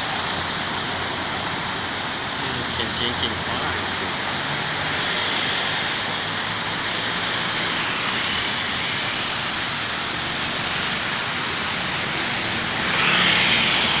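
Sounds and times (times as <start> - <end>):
low traffic rumble: 0.0 - 14.0
traffic hiss: 0.0 - 14.0.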